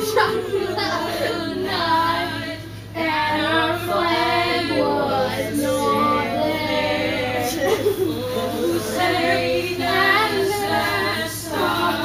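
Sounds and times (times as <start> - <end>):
voices singing together: 0.0 - 12.0.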